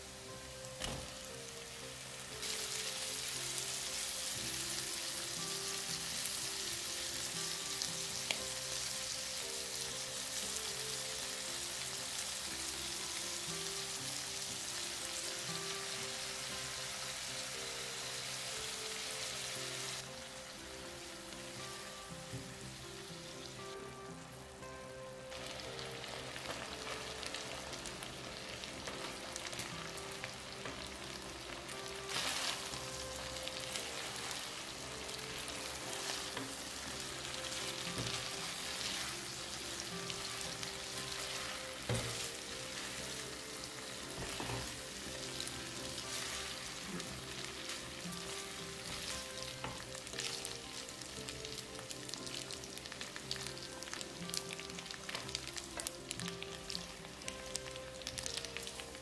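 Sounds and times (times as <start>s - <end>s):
sauce sizzling in a pan: 0.0s - 59.0s.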